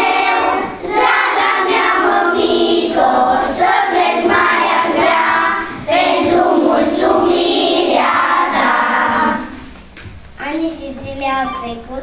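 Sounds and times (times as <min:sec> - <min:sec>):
children singing together: 0:00.0 - 0:09.6.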